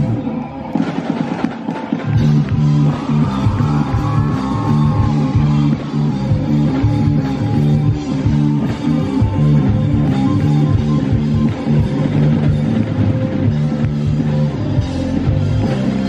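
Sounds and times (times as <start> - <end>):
rock band playing instrumental: 0.0 - 16.0.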